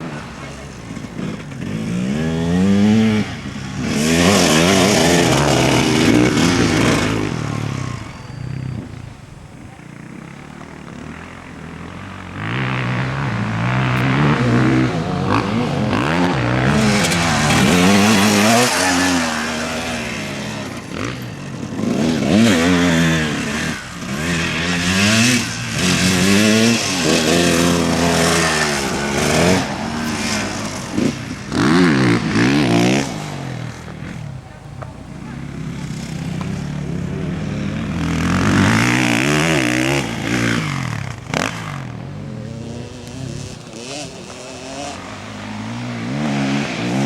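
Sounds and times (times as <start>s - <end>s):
motocross bikes revving: 0.0s - 47.0s.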